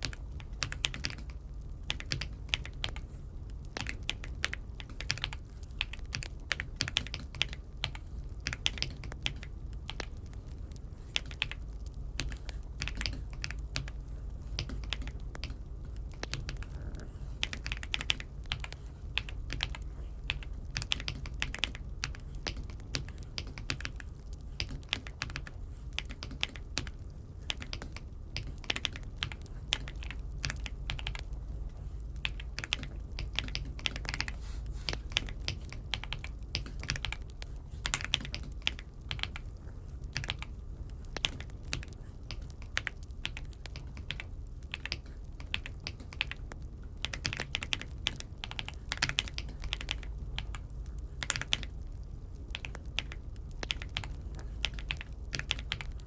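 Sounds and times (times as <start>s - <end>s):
mechanical keyboard typing: 0.0s - 3.0s, 3.7s - 10.4s, 11.1s - 14.0s, 14.6s - 31.4s, 32.2s - 39.5s, 40.1s - 50.6s, 51.2s - 56.0s
low steady hum: 0.0s - 56.0s.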